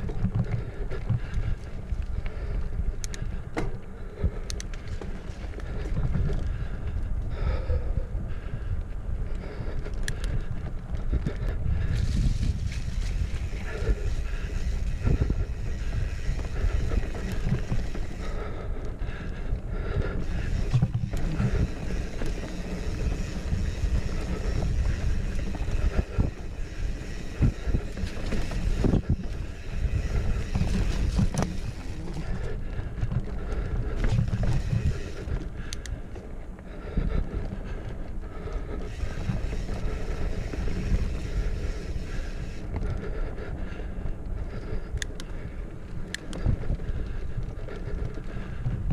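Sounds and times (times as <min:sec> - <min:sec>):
bike knocking and rattling: 0:00.0 - 0:07.4, 0:09.3 - 0:48.9
wind buffeting microphone: 0:00.0 - 0:48.9.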